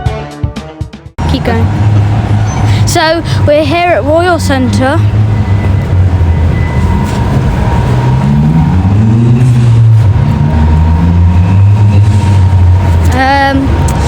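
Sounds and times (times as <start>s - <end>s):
heavy vehicle pulling away: 1.2s - 14.0s.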